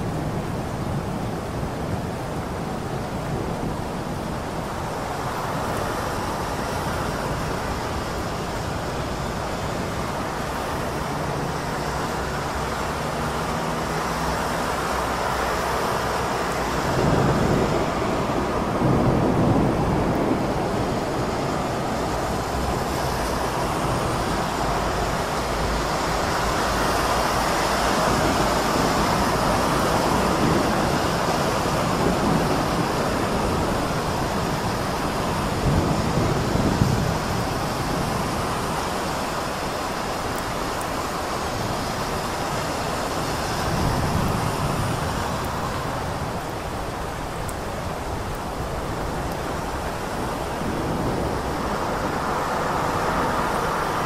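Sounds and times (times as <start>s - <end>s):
heavy rain hissing: 0.0s - 54.0s
traffic on wet road: 0.0s - 54.0s.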